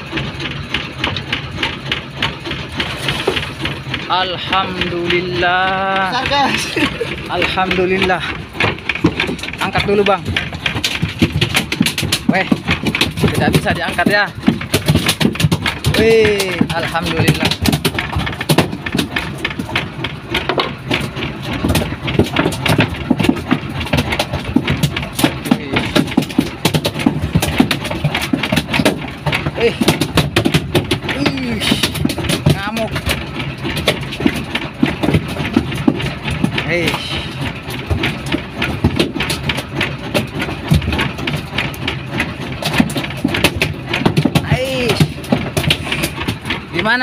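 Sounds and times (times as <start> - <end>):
boat engine running: 0.0 - 47.0
fish slapping wooden planks: 0.0 - 47.0.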